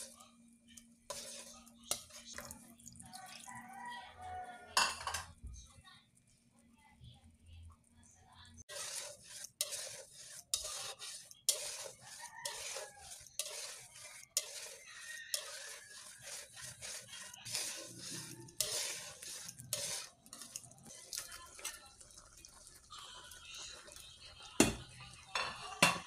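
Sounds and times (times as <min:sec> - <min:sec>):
spatula scraping frying pan: 0:00.0 - 0:00.3, 0:01.0 - 0:05.2, 0:08.6 - 0:26.0.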